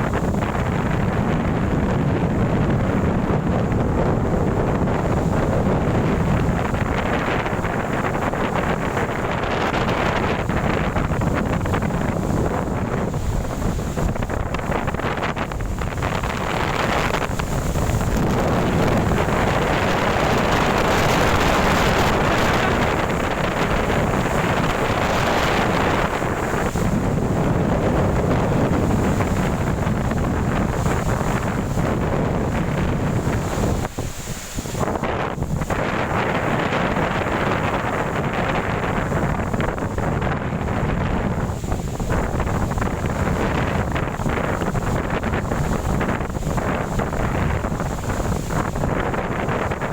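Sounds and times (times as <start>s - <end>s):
gusty wind buffeting microphone: 0.0s - 49.9s.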